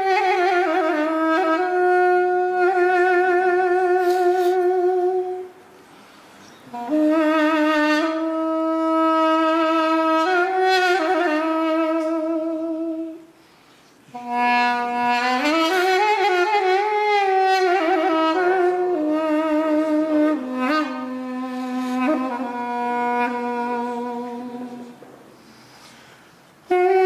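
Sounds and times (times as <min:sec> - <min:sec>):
duduk playing slow melody: 0:00.0 - 0:05.6, 0:06.7 - 0:13.3, 0:14.1 - 0:25.0, 0:26.7 - 0:27.0.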